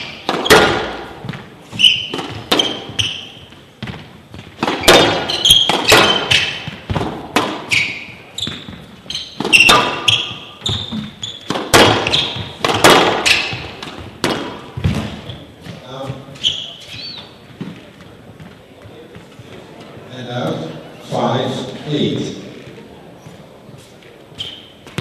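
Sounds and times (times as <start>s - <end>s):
squash ball hitting rackets and walls: 0.0s - 20.0s, 24.4s - 25.0s
shoes squeaking on court: 0.0s - 25.0s.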